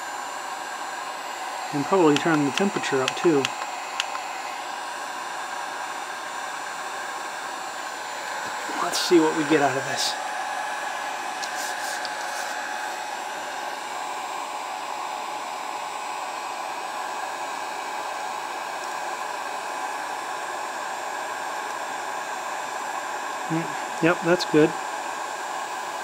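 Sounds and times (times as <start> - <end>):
heat gun blowing air: 0.0 - 26.0.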